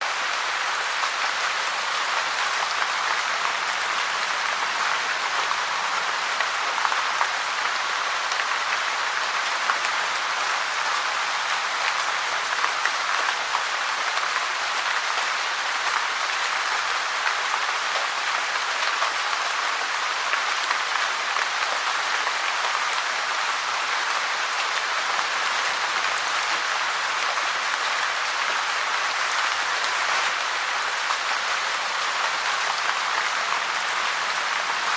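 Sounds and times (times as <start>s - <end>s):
steady dense rainfall: 0.0s - 34.9s.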